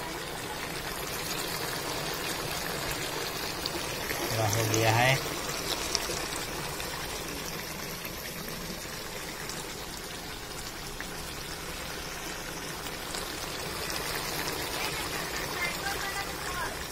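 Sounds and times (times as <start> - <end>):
curry bubbling and sizzling: 0.0 - 16.9.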